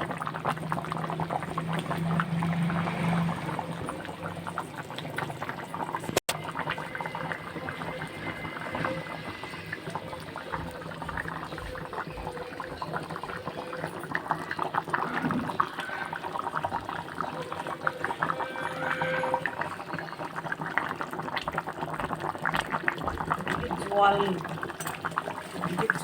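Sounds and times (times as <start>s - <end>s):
curry bubbling in a pot: 0.0s - 26.0s.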